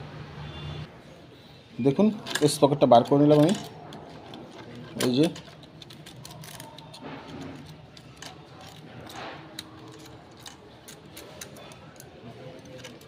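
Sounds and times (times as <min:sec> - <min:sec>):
metal parts and tools clicking: 0:02.0 - 0:13.0.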